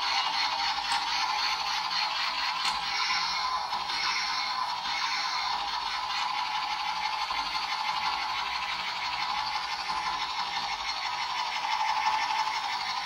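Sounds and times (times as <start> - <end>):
toy pistol electronic sound effect: 0.0 - 13.0.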